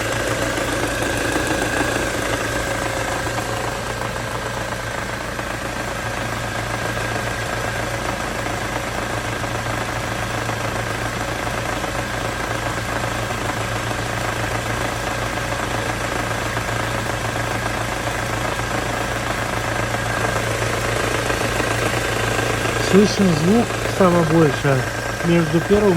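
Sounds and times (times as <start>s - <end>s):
car engine idling: 0.0s - 25.9s
engine knock: 0.0s - 25.9s.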